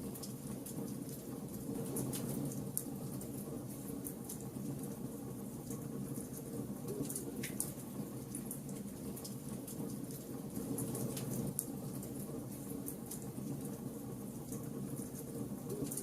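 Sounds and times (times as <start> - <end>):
wood fire burning: 0.1 - 16.0.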